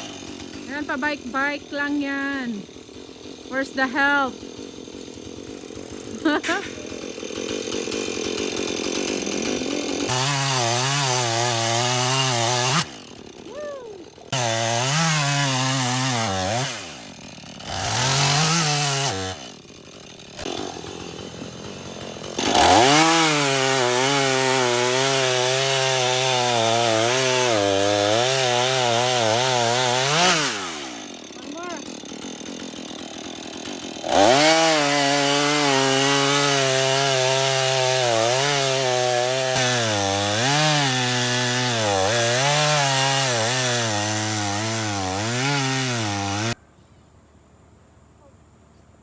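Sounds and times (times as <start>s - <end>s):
chainsaw cutting wood: 0.0s - 46.6s.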